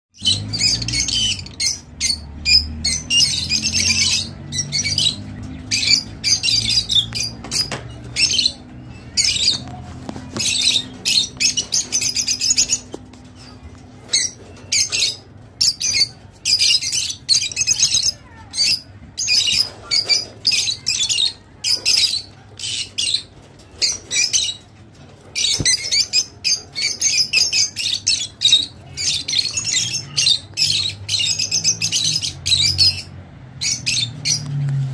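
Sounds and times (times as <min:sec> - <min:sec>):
lovebirds squawking and chirping: 0:00.2 - 0:34.7.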